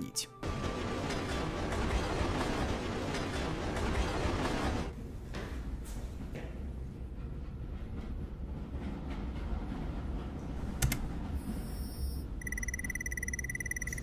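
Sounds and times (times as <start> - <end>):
train cab low rumble: 0.4 - 12.5.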